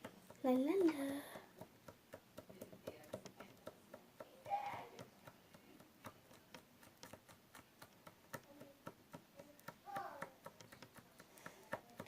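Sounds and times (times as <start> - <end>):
slime kneaded by hand: 0.0 - 12.0.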